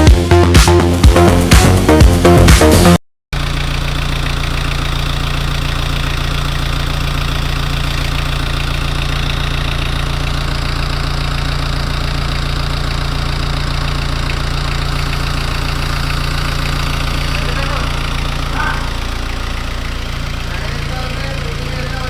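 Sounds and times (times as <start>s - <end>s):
diesel engine idling: 1.0s - 22.0s.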